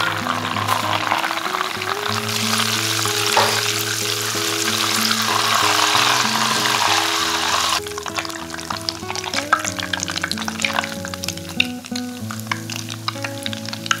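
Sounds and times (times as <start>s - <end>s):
butter sizzling in a saucepan: 0.0s - 14.0s.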